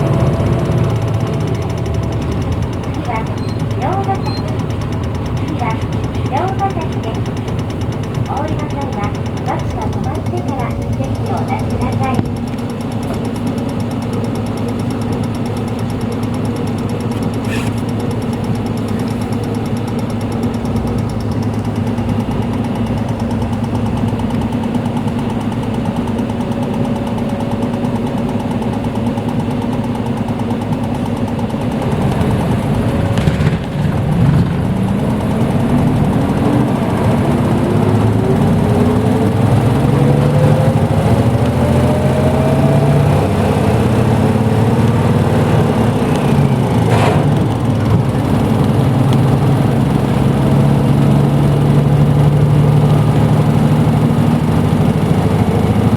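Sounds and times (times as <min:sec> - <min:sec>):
diesel bus engine: 0:00.0 - 0:55.9.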